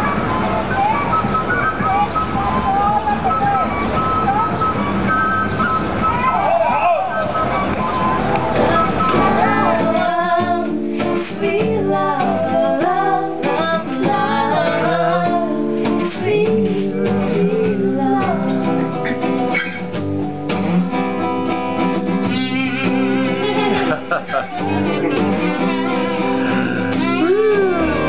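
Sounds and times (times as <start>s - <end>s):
guitar music: 0.0s - 28.0s.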